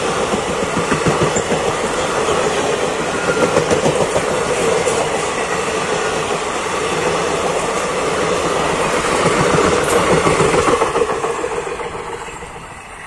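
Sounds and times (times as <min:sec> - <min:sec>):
train wheels clattering over rails: 0:00.0 - 0:13.0.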